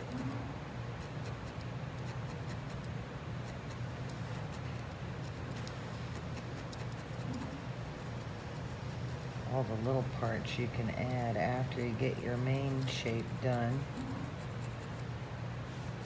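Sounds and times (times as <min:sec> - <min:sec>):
low steady hum: 0:00.0 - 0:16.0
felting needle jabbing wool: 0:00.9 - 0:15.2.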